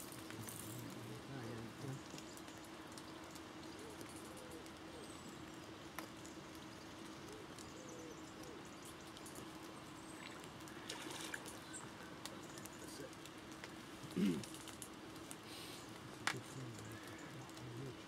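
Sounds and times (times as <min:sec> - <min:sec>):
faint raindrop ticks: 0:00.0 - 0:18.0
faint bird calls: 0:01.1 - 0:13.4, 0:15.4 - 0:18.0.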